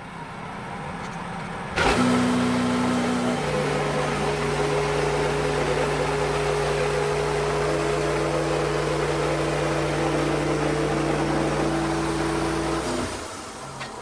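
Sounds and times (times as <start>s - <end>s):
band sawmill humming: 1.8s - 13.5s.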